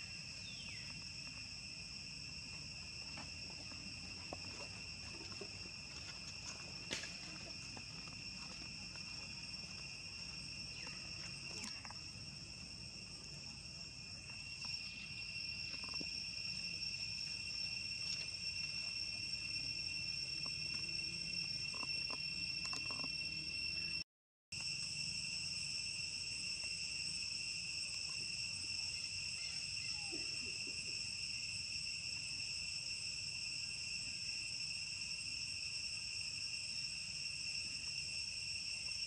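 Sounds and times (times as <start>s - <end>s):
insects buzzing: 0.0s - 24.0s, 24.6s - 39.0s.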